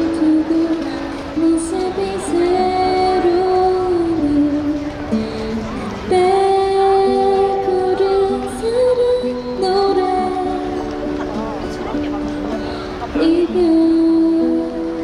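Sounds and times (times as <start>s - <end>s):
woman singing a slow ballad: 0.0s - 11.2s, 12.6s - 15.0s
acoustic guitar: 0.0s - 15.0s.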